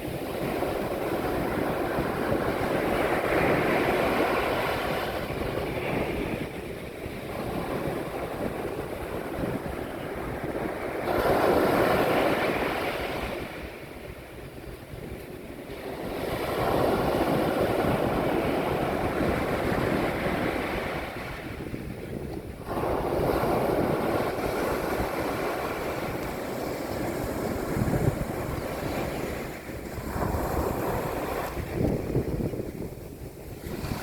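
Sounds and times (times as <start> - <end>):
sea waves breaking on beach: 0.0 - 34.0.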